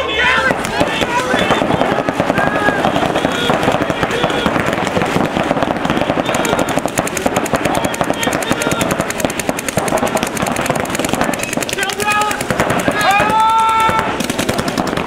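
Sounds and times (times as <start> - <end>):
paintball markers firing: 0.5 - 15.0.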